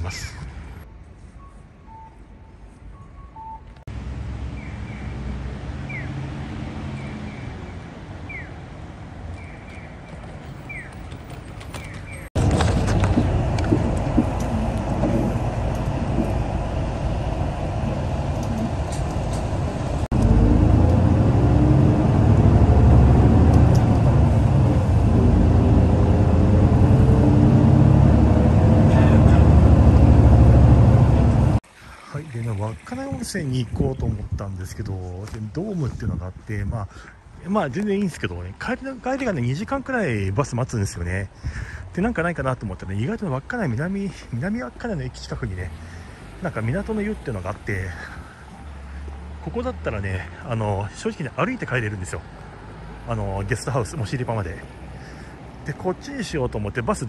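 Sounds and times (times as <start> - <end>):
bus engine and road rumble: 0.0 - 31.6, 33.7 - 57.0.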